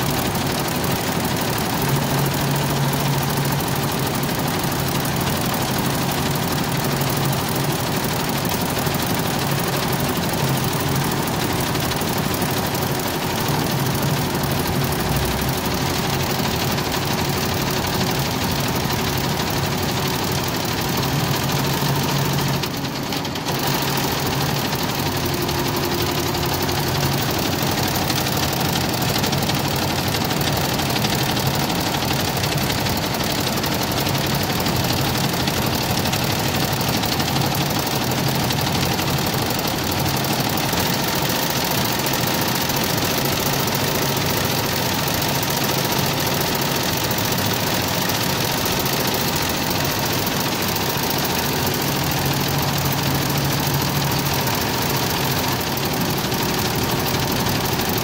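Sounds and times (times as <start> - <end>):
embroidery machine clattering: 0.0 - 58.0.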